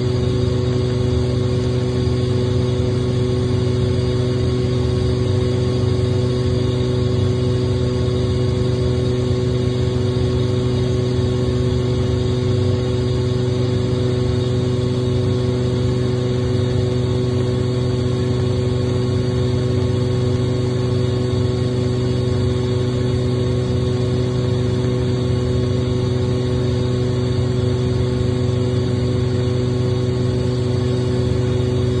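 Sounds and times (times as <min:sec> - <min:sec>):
air compressor humming: 0:00.0 - 0:32.0.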